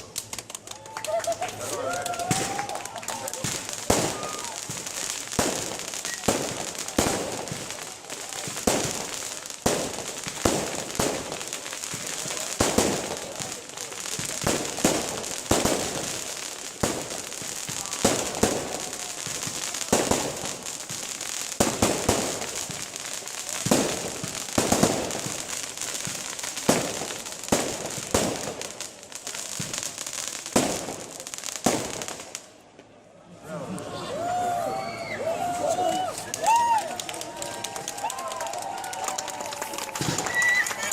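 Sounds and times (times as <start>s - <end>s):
fireworks bursting: 0.0s - 33.0s, 35.7s - 40.9s
fireworks crackling: 0.0s - 33.1s, 35.2s - 40.9s.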